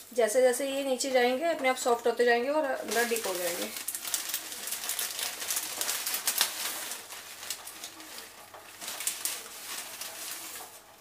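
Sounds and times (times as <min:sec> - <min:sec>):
water boiling in a pot: 0:00.0 - 0:11.0.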